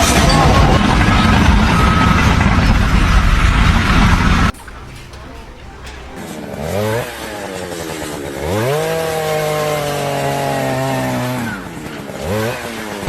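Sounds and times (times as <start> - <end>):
small petrol engine revving: 0.0 - 13.0.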